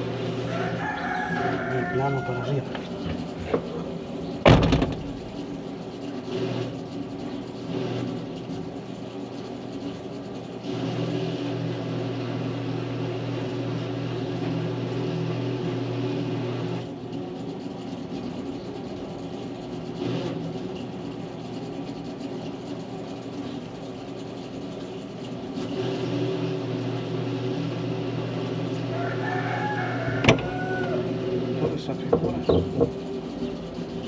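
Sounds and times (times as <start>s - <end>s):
electric welding machine humming: 0.0s - 34.0s.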